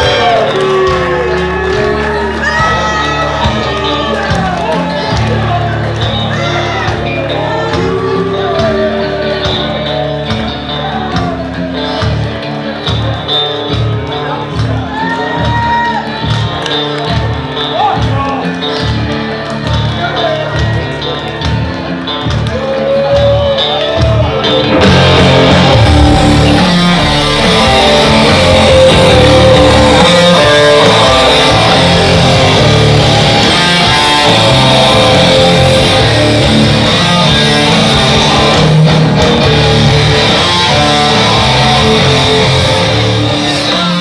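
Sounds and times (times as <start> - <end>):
loud rock music with guitar: 0.0 - 44.0.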